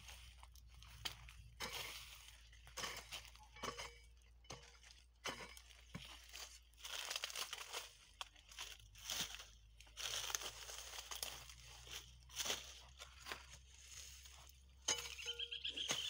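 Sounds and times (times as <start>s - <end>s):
dry corn leaves rustling underfoot: 0.0s - 16.0s.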